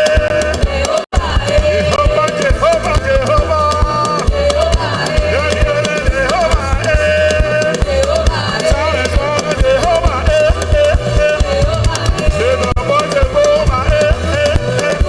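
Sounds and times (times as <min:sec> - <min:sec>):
bass line: 0:00.0 - 0:15.0
gospel band music: 0:00.0 - 0:15.0
steady drum beat: 0:00.0 - 0:15.0
sliding lead melody: 0:01.2 - 0:15.0.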